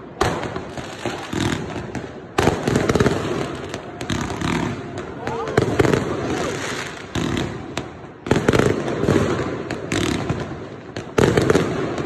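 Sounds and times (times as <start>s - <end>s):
din of fireworks: 0.0s - 12.0s.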